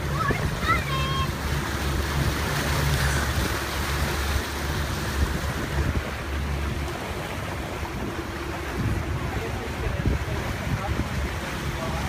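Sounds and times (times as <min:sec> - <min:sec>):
low boat engine drone: 0:00.0 - 0:12.0
water churning past hull: 0:00.0 - 0:12.0
wind across microphone: 0:02.0 - 0:12.0.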